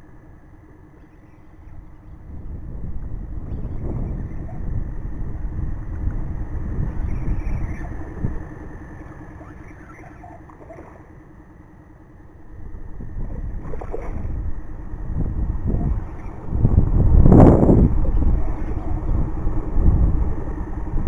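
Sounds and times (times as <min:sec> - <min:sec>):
wind rumbling on microphone: 0:00.0 - 0:11.1, 0:12.4 - 0:21.0
faint steady hum: 0:00.0 - 0:21.0.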